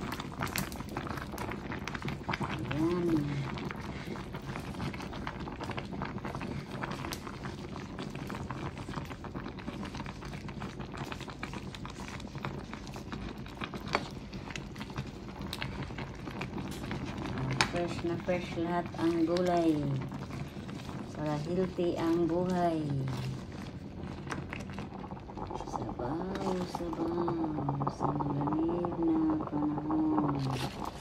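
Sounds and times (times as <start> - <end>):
broth boiling in a pot: 0.0 - 31.0.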